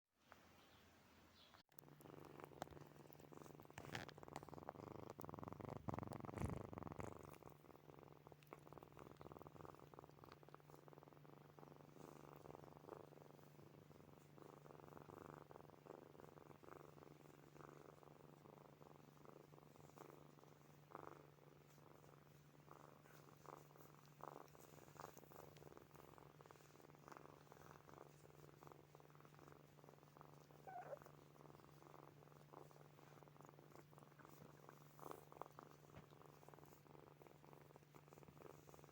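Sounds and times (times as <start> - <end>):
kittens purring: 1.5 - 38.9.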